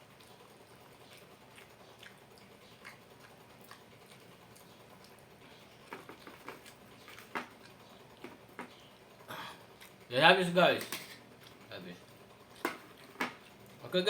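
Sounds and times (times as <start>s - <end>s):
quiet chewing: 0.0s - 10.1s, 11.2s - 13.8s.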